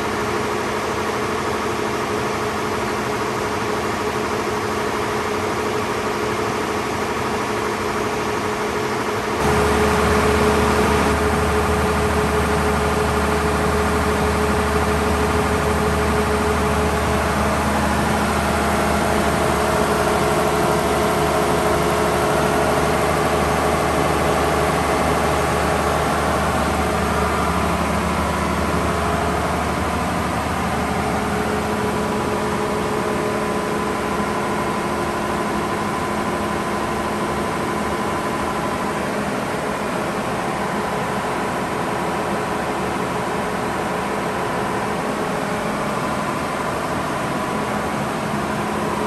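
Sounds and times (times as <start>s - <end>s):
diesel generator engine running: 0.0s - 49.0s.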